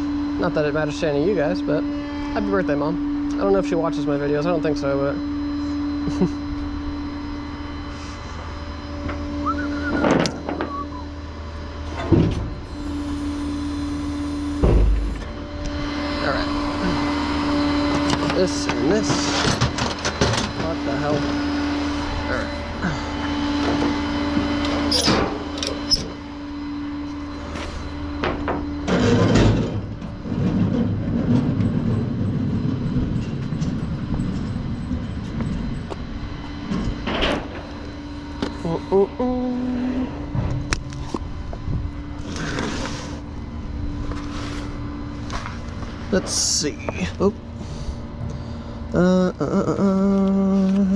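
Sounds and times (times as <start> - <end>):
truck engine humming: 0.0 - 50.9.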